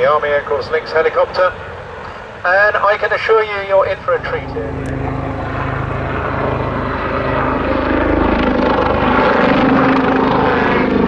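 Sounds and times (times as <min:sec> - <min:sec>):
helicopter rotor beat: 0:00.0 - 0:11.0
turbine engines whining: 0:00.0 - 0:11.0.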